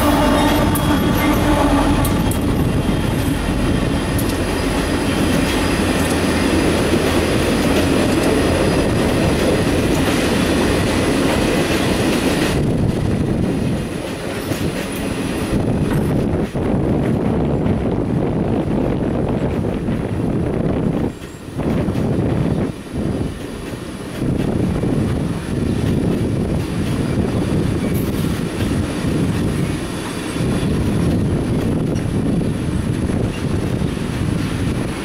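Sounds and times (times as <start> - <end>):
diesel locomotive engine: 0.0 - 35.0
train wheels rolling on rails: 0.0 - 35.0.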